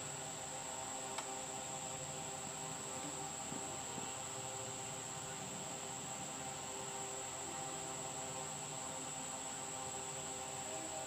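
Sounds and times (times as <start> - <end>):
background hum and hiss: 0.0 - 11.0
high-pitched whine: 0.0 - 11.0.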